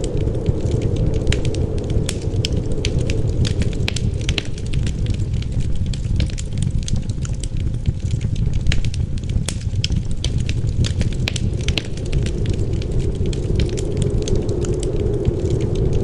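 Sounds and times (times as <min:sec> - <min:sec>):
low wind rumble: 0:00.0 - 0:16.0
wood fire crackling and popping: 0:00.0 - 0:16.0.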